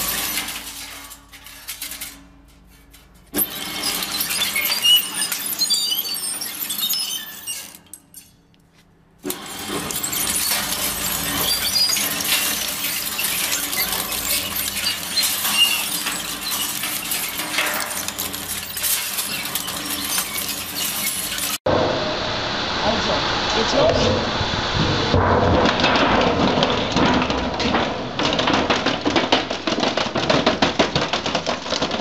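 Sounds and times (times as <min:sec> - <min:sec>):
crushing machine crackling: 0:00.0 - 0:08.2, 0:09.2 - 0:21.7, 0:24.4 - 0:32.0.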